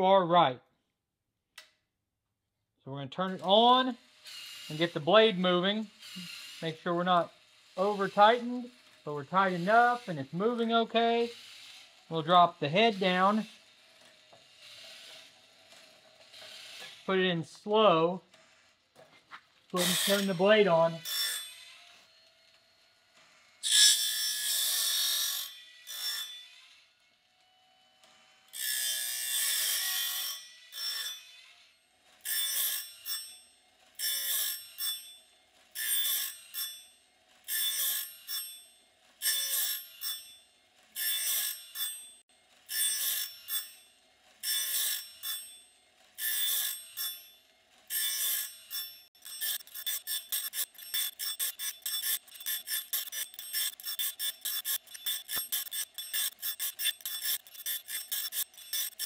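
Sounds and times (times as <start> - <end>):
grinding wheel on blade teeth: 3.6 - 17.3, 19.7 - 22.3, 23.3 - 26.8, 28.5 - 59.0.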